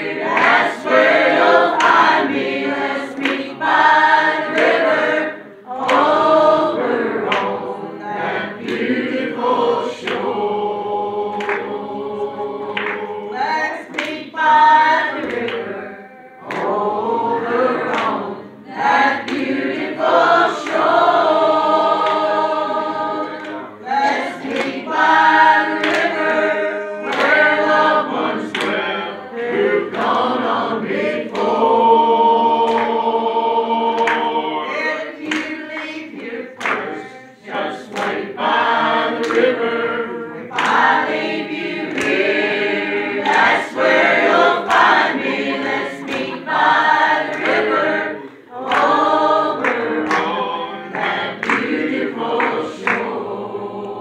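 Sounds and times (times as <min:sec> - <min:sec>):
hand claps: 0:00.0 - 0:10.6, 0:11.3 - 0:15.8, 0:16.4 - 0:33.2, 0:33.9 - 0:54.0
women singing gospel: 0:00.0 - 0:54.0.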